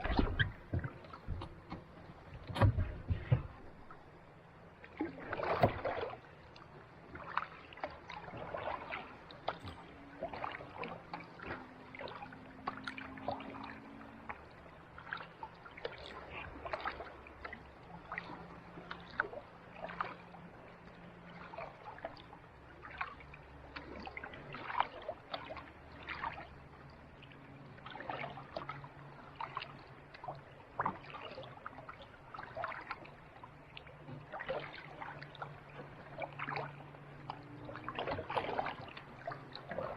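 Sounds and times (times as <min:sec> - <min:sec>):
paddle splashing in water: 0:00.0 - 0:39.9
water dripping from paddle: 0:04.8 - 0:39.9.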